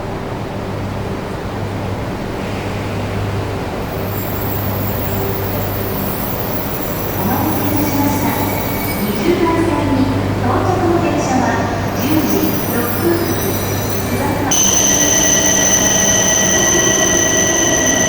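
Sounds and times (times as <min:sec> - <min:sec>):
train humming and rumbling: 0:00.0 - 0:18.0.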